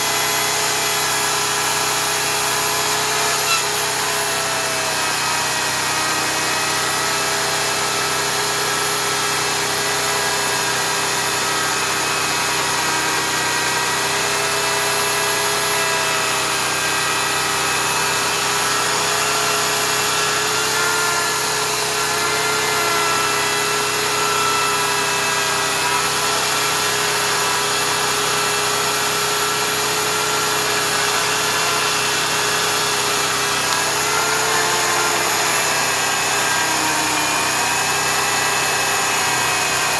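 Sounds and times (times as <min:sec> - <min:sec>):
electric chainsaw cutting wood: 0:00.0 - 0:39.9.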